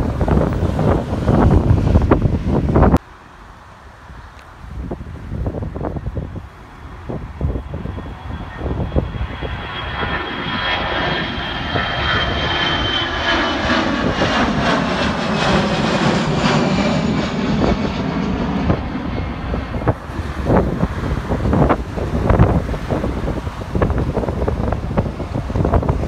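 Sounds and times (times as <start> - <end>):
high jet engine whine: 0.0 - 26.0
jet airliner passing overhead: 0.0 - 26.0.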